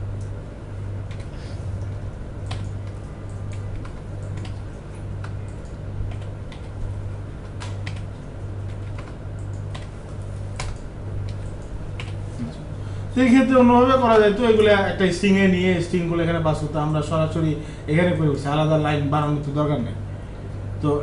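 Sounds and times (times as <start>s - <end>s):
low pulsing hum: 0.0s - 21.0s.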